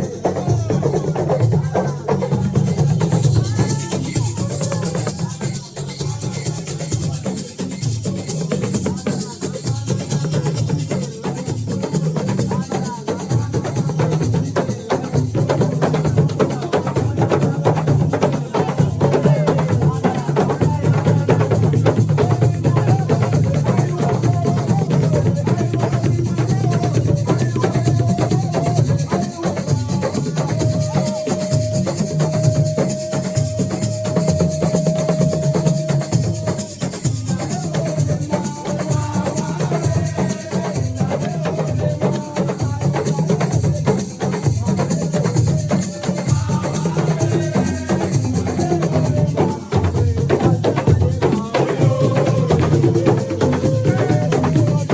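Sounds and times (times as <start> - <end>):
drums and shakers: 0.0 - 54.9.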